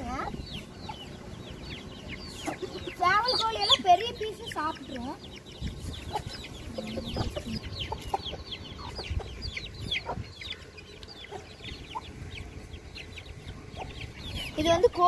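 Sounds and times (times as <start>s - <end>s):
chicks peeping: 0.0s - 15.0s
hens clucking: 0.0s - 15.0s.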